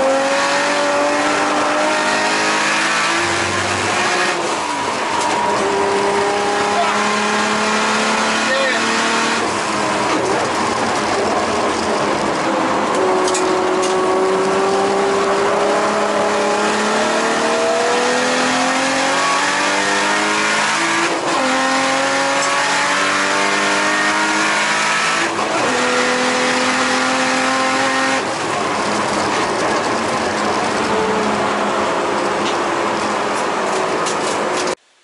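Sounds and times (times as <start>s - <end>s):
car engine accelerating hard: 0.0s - 34.8s.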